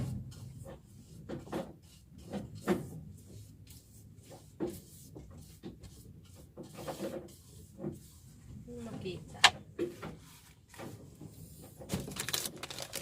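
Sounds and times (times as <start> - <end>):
light knocks and scrapes: 0.0 - 12.1.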